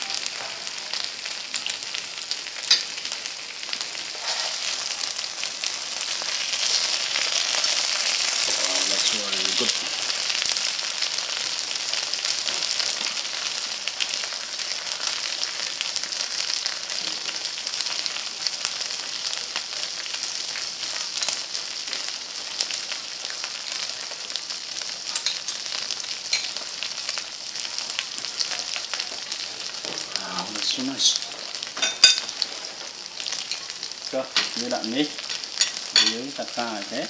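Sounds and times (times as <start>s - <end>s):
meat and vegetables sizzling: 0.0s - 37.0s.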